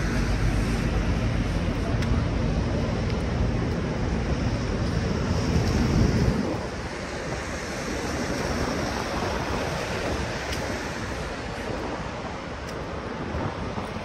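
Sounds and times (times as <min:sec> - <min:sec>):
rushing city ambience: 0:00.0 - 0:14.0.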